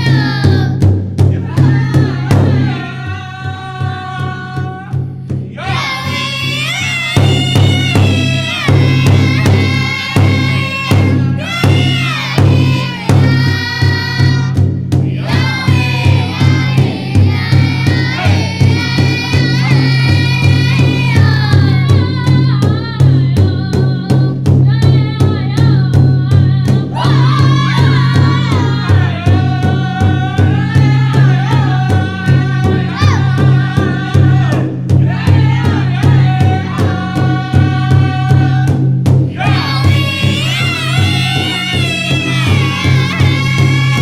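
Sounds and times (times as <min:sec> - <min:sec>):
group singing in high voices: 0:00.0 - 0:44.0
steady drumbeat: 0:00.0 - 0:44.0.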